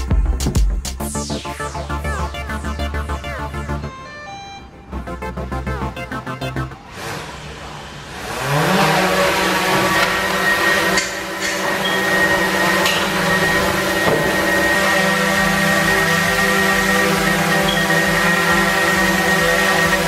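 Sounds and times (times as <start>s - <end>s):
drone propellers buzzing: 1.0s - 20.0s.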